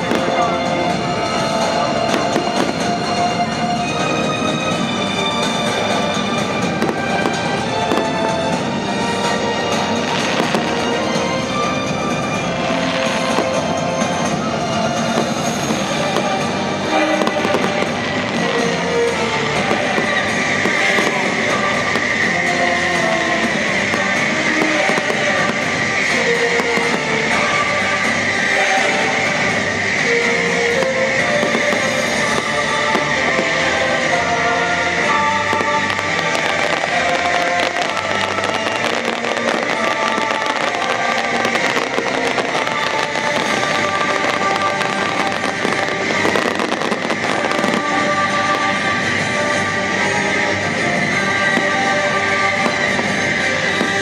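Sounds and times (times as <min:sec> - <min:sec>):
fireworks crackling and popping: 0:00.0 - 0:54.0
music through sound system: 0:00.0 - 0:54.0.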